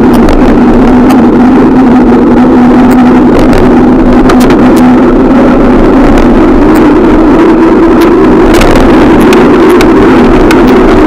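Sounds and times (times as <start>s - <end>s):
road rumble: 0.0s - 11.0s
steady hum: 0.0s - 11.0s
wind buffeting microphone: 0.0s - 11.0s.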